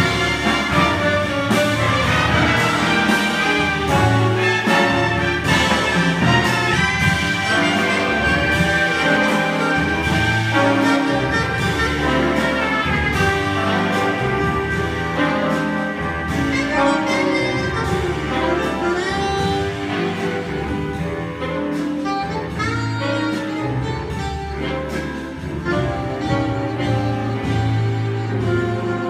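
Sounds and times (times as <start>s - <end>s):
jazz big band playing: 0.0s - 29.0s.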